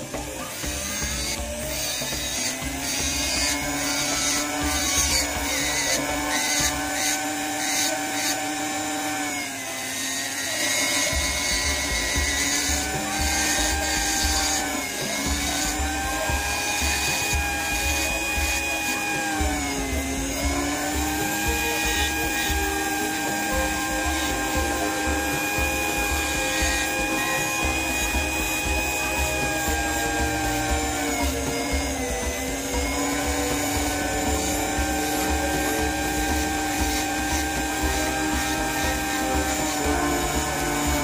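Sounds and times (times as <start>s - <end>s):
background music with beat: 0.0s - 9.6s, 10.2s - 41.0s
power tool motor running: 0.0s - 41.0s.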